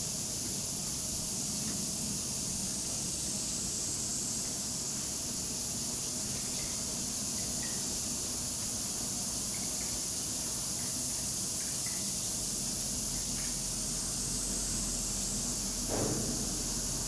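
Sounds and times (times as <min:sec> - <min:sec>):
high-pitched insect chorus: 0:00.1 - 0:17.0.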